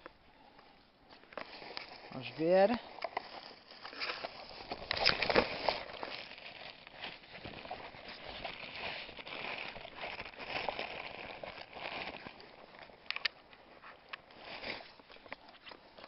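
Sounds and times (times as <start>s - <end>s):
rummaging through a backpack: 0.0s - 16.0s.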